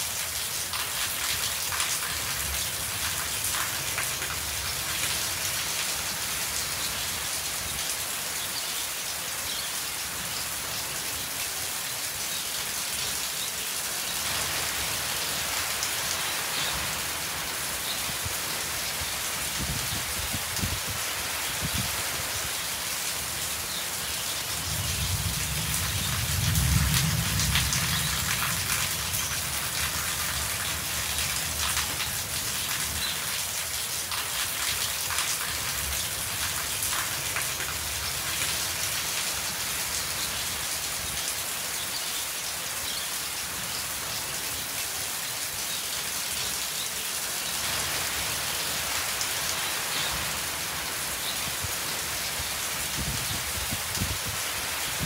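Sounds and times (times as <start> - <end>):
rain on metal roofs: 0.0 - 55.0.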